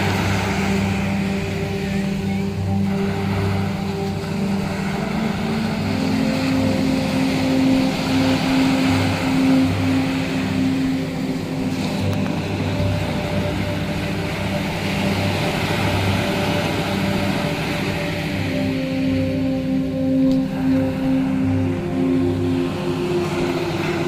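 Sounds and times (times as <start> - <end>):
slow music with low held notes: 0.0 - 24.0
waves breaking on a beach: 0.0 - 24.0.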